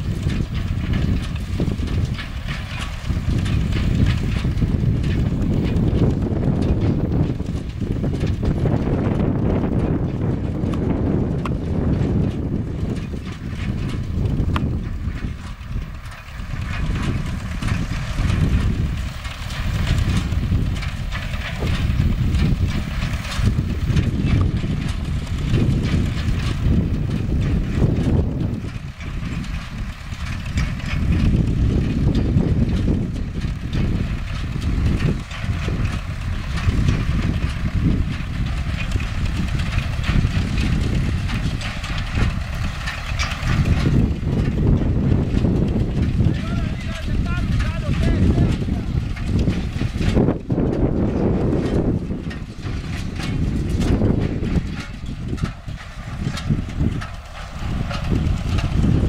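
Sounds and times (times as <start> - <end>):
faint machinery clicking: 0.0 - 59.0
hay baler clattering: 0.0 - 59.0
tractor diesel engine rumbling: 0.0 - 59.0.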